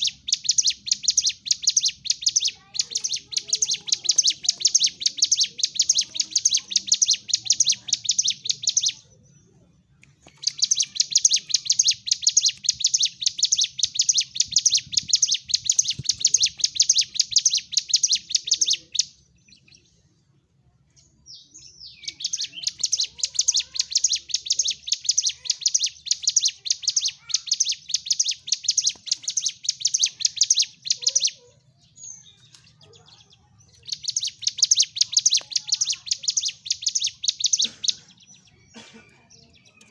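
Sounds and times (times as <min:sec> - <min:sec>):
bird singing rapid high notes: 0:00.0 - 0:09.3, 0:10.2 - 0:20.0, 0:21.3 - 0:39.9.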